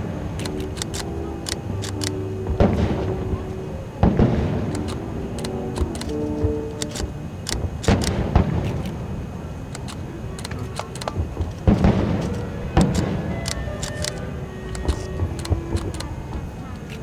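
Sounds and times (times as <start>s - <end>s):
fireworks bangs and crackles: 0.0s - 17.0s
heavy fireworks booms: 0.0s - 17.0s.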